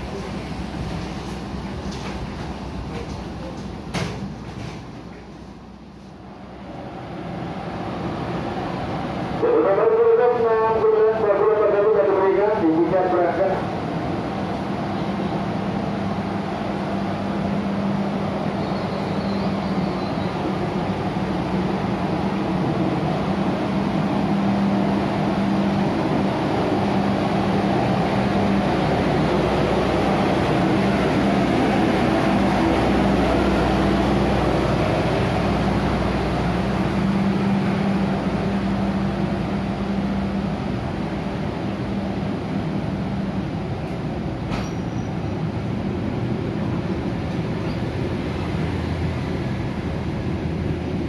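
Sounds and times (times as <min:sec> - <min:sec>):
train mechanical drone: 0:00.0 - 0:51.0.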